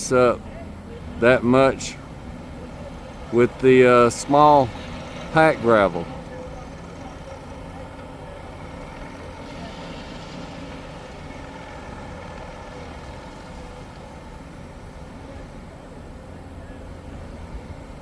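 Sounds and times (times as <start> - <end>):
engines running: 0.0 - 18.0.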